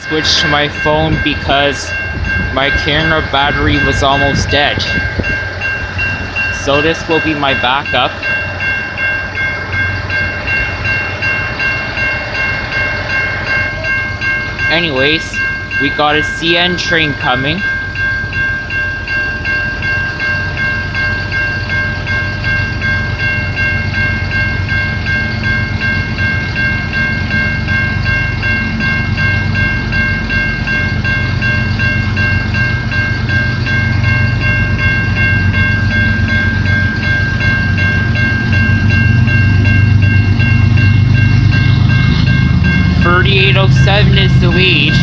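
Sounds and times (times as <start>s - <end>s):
diesel locomotive rumble: 0.0s - 45.0s
level crossing bell ringing: 0.0s - 45.0s.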